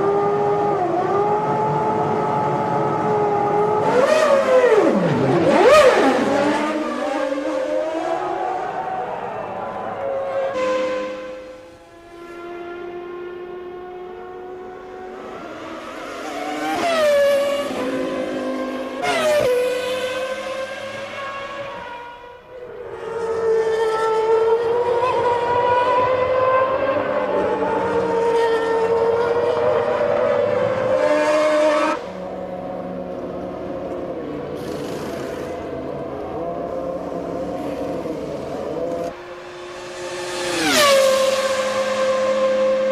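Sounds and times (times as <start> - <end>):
high-revving race car engine: 0.0 - 42.9
race cars passing: 0.0 - 42.9.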